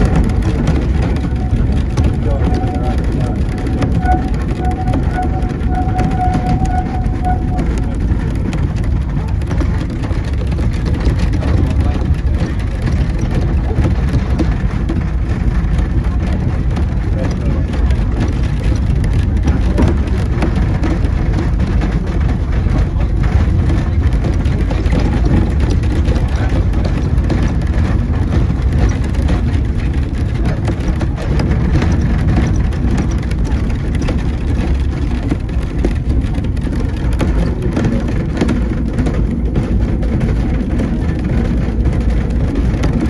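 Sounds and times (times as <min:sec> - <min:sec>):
carriage rattling: 0:00.0 - 0:43.0
train wheels rumbling on rails: 0:00.0 - 0:43.0.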